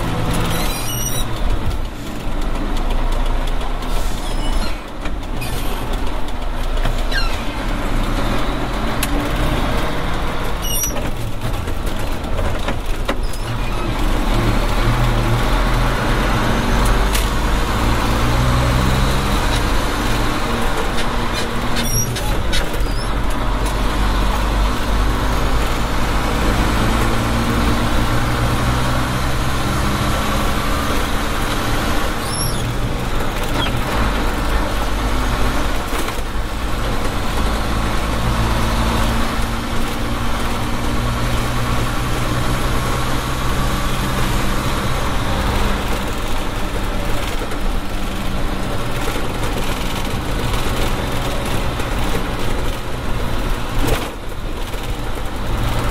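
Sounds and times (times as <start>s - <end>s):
diesel truck engine running: 0.0s - 55.9s
road noise hum: 0.0s - 55.9s.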